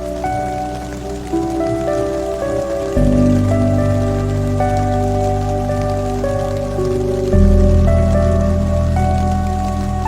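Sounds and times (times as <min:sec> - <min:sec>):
rain patter: 0:00.0 - 0:10.0
reverberant ambient music: 0:00.0 - 0:10.0.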